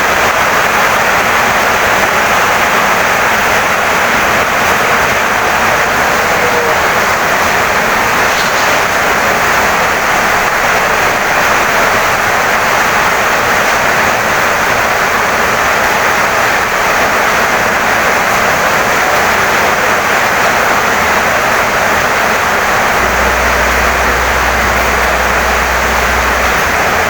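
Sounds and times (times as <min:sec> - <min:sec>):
heavy rain on wooden house: 0:00.0 - 0:27.0.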